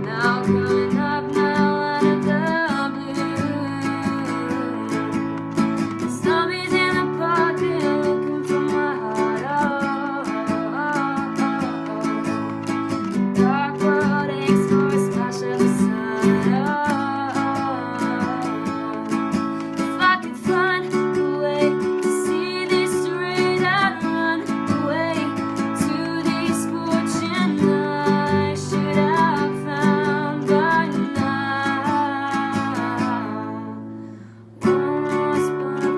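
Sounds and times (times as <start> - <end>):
acoustic guitar strumming: 0.0 - 35.9
woman singing: 0.0 - 35.9.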